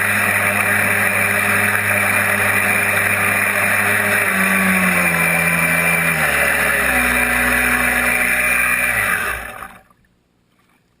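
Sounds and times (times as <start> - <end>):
electric boat motor whining: 0.0 - 9.9.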